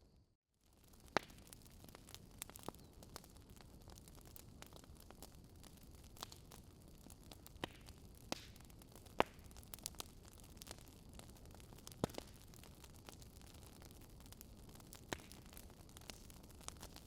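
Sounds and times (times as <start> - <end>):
fire crackling and popping: 0.6 - 17.0.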